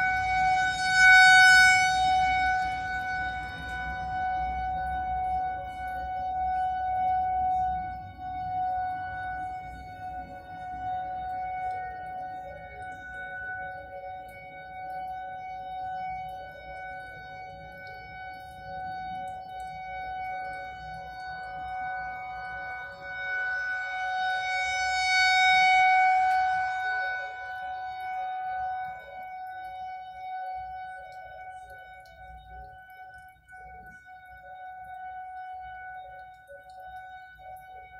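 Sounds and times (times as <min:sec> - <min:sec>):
warning siren steady tone: 0:00.0 - 0:37.9.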